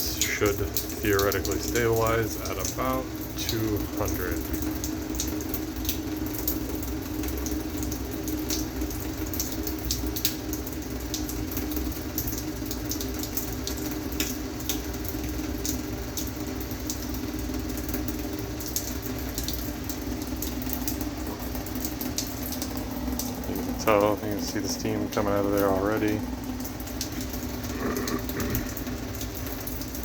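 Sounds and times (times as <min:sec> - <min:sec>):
crackles and ticks of heating water: 0:00.0 - 0:30.0
water heater humming: 0:00.0 - 0:30.0
water trickling: 0:00.0 - 0:30.0.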